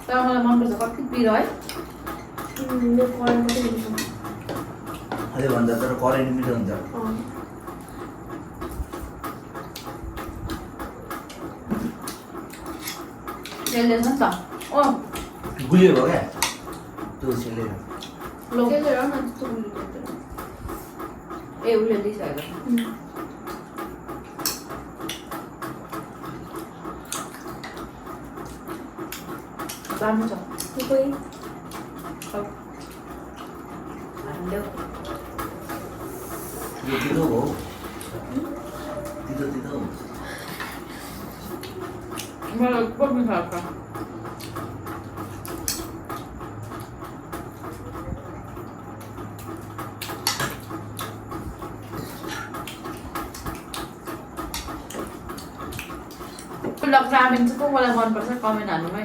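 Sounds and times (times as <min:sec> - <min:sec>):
wet chewing: 0:01.5 - 0:19.1, 0:22.4 - 0:42.6, 0:43.9 - 0:57.6.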